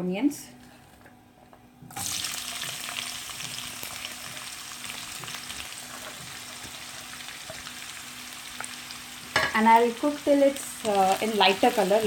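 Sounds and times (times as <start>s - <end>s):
onions sizzling in hot oil: 1.9s - 12.0s.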